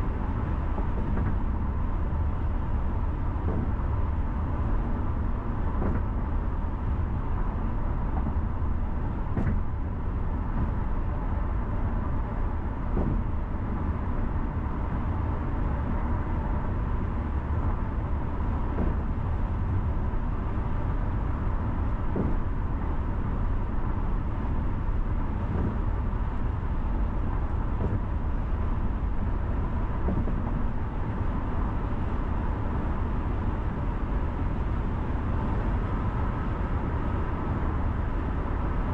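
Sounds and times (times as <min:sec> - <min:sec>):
car road rumble: 0:00.0 - 0:38.9.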